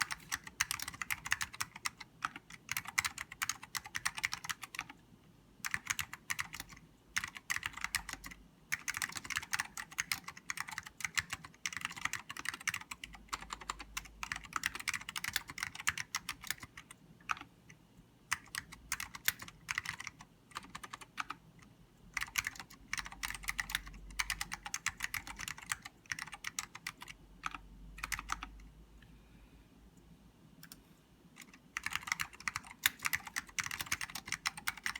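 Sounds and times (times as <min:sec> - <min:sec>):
keyboard typing: 0:00.0 - 0:05.0, 0:05.6 - 0:28.7, 0:30.6 - 0:30.8, 0:31.4 - 0:34.9.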